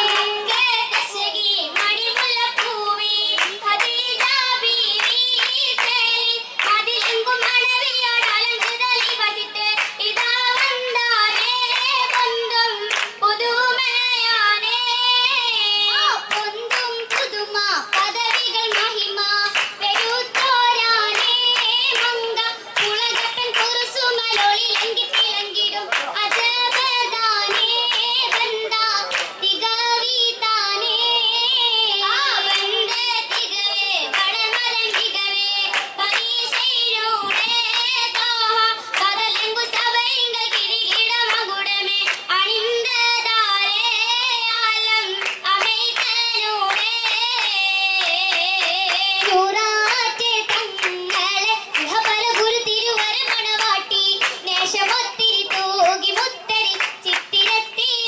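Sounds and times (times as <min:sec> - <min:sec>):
girls singing together: 0:00.0 - 0:58.0
rhythmic hand claps: 0:00.0 - 0:58.0.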